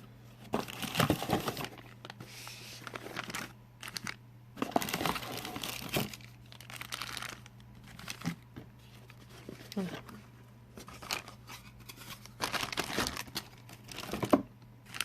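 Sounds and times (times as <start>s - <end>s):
packaging crinkling: 0.4s - 10.2s, 10.8s - 15.0s.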